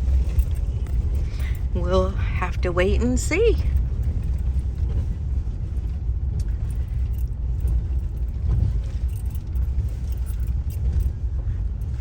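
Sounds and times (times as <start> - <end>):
car driving heard from inside: 0.0 - 12.0.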